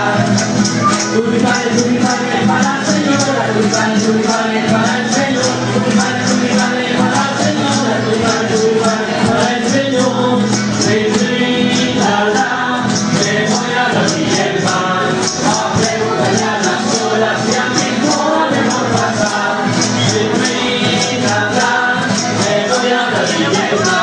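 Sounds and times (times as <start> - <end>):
shaken jingling beat: 0.0 - 24.0
voices singing together: 0.0 - 24.0.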